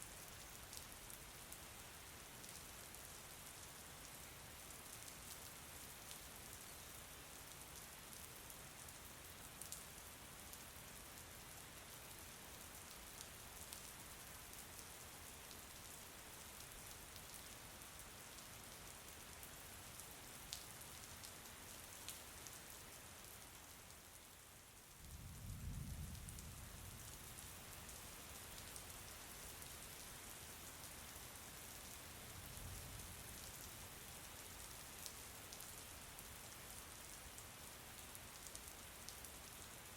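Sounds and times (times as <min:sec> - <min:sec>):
faint rain falling: 0:00.0 - 0:39.9.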